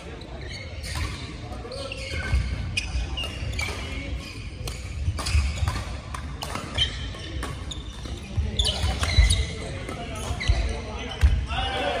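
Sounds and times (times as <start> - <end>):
shoes squeaking on court: 0.0 - 11.4
rackets hitting shuttlecock: 0.8 - 11.5.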